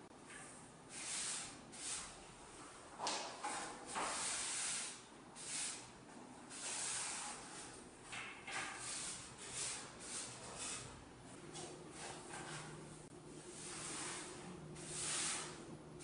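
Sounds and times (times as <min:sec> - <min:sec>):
broom sweeping concrete floor: 0:00.3 - 0:15.8.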